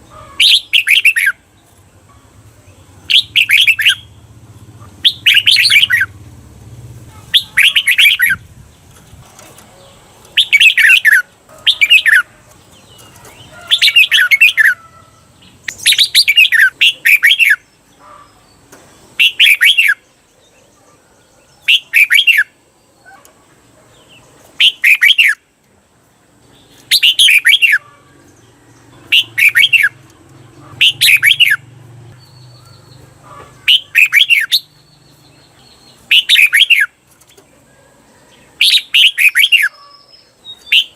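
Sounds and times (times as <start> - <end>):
bird warbling song: 0.0 - 6.3, 7.0 - 25.4, 26.5 - 40.9.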